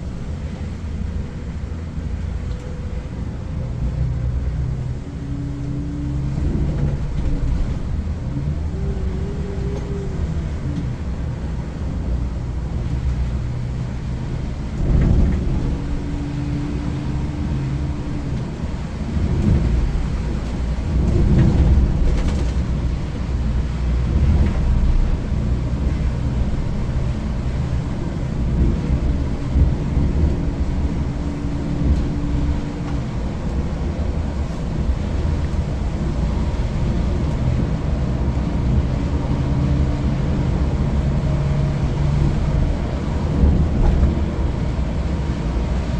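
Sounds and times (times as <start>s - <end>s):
diesel engine droning under load: 0.0s - 45.9s.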